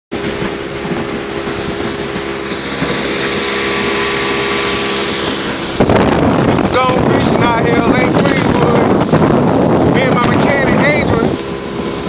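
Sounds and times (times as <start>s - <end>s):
outboard motor running: 0.1s - 12.0s
rush of wind and water: 0.1s - 12.0s.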